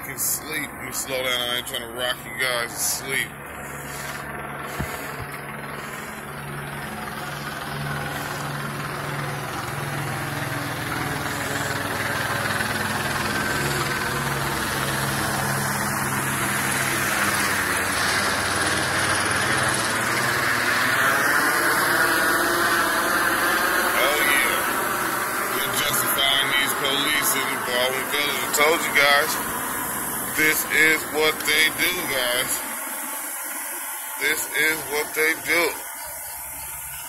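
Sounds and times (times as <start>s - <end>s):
engine drone: 0.0s - 37.0s.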